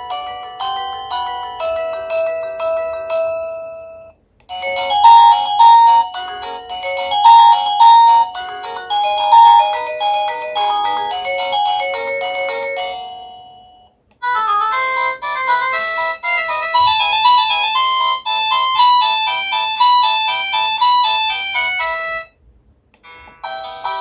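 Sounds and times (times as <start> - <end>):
electronic doorbell chime tunes: 0.0 - 22.3, 23.0 - 24.0.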